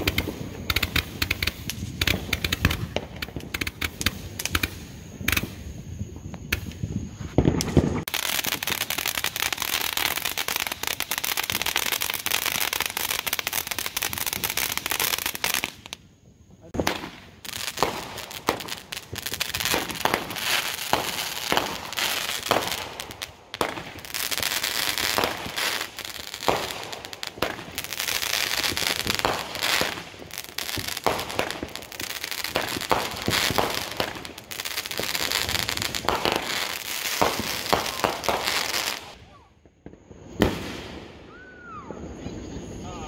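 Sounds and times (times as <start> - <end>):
fireworks popping and banging: 0.0 - 41.4
fireworks hissing: 0.0 - 43.0.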